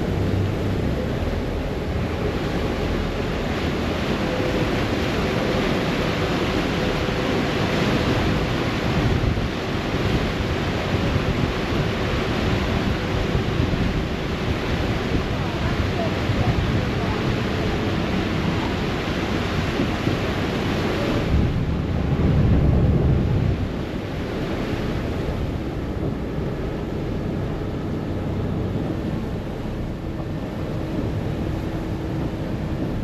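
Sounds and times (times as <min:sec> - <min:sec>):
faint low engine drone: 0:00.0 - 0:33.0
rushing water: 0:00.0 - 0:33.0
wind buffeting microphone: 0:00.0 - 0:33.0.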